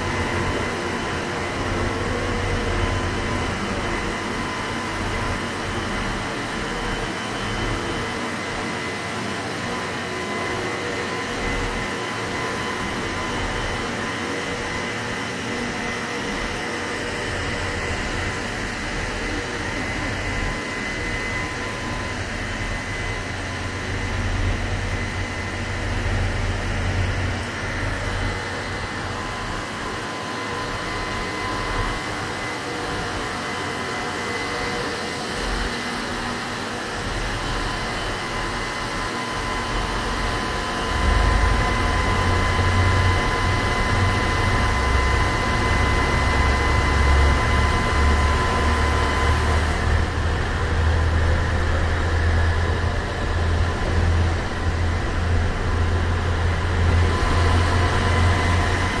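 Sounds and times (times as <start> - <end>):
train running slowly: 0.0 - 59.0.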